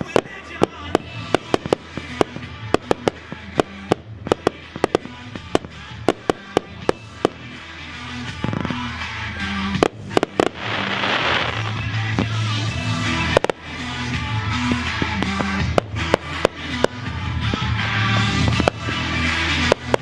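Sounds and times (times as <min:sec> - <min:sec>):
firework crackling hiss: 0:00.0 - 0:20.0
firework reports: 0:00.0 - 0:20.0.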